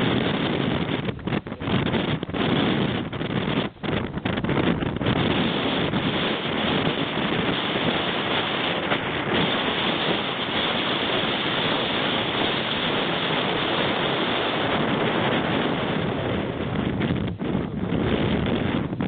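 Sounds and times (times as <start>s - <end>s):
surf: 0.0s - 19.0s
wind: 0.0s - 19.0s
wind buffeting microphone: 0.0s - 19.0s.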